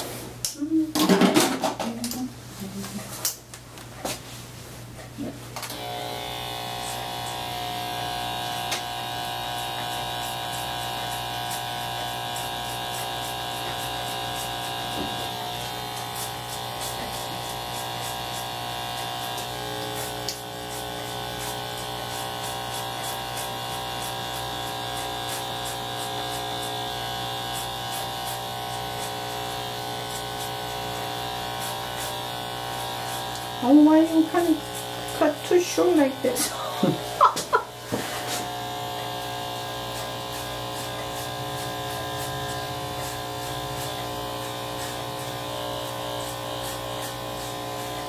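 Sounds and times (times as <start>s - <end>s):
electric hair clippers buzzing: 5.6s - 48.0s.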